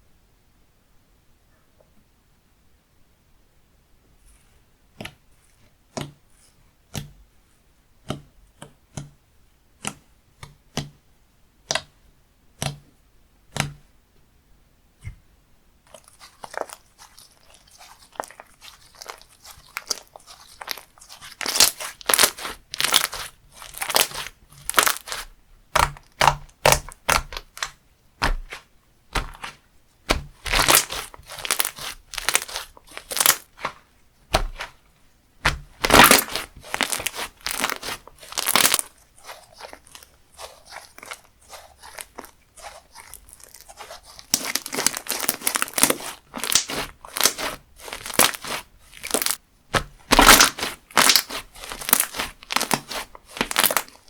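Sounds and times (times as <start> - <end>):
slime squishing by hand: 4.4 - 7.3, 8.0 - 13.9, 15.0 - 54.0.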